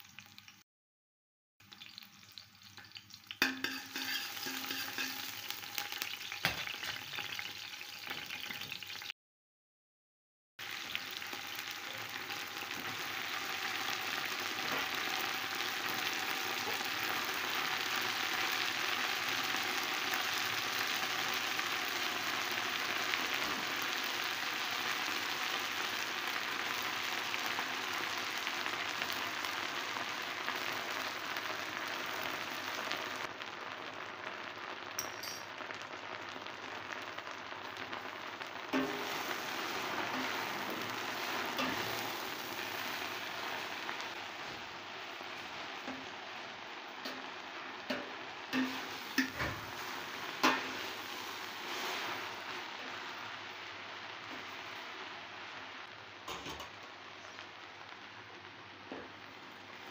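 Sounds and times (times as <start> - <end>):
garlic sizzling in hot oil: 0.0 - 0.6, 1.6 - 9.2, 10.6 - 59.9
leaves frying in oil: 0.0 - 0.6, 1.6 - 9.1, 10.6 - 59.9.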